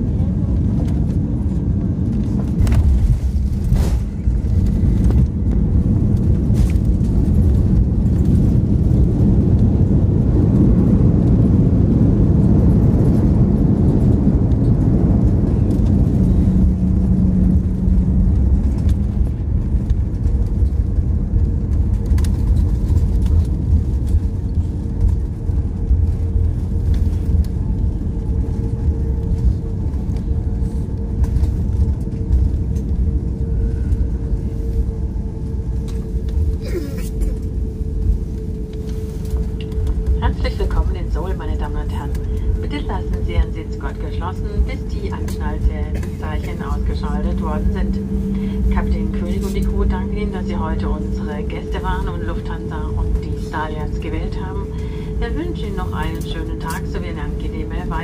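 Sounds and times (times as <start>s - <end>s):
aircraft engines and wheels rumbling: 0.0s - 58.0s
steady hum: 0.0s - 58.0s.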